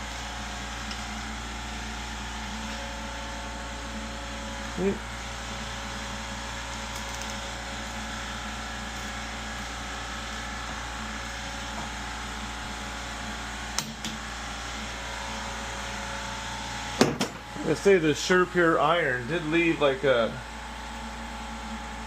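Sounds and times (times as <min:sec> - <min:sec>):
shop machinery humming: 0:00.0 - 0:22.0.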